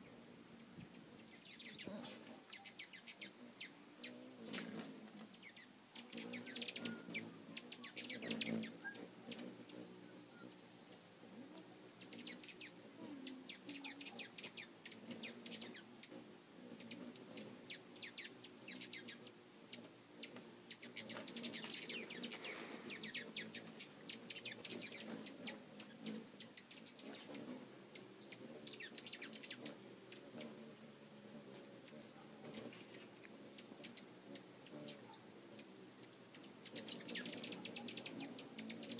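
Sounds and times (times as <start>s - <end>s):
hummingbirds chattering: 0.0s - 38.9s.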